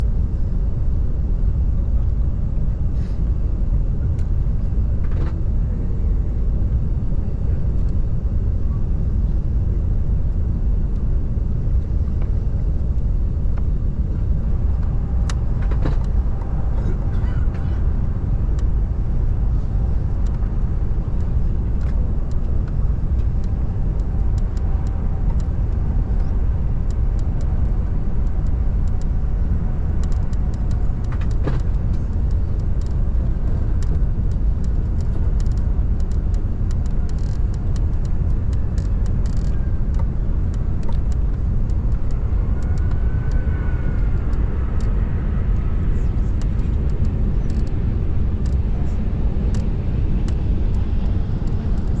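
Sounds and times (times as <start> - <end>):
airliner cabin rumble: 0.0 - 52.0
jet engine and airflow noise: 0.0 - 52.0.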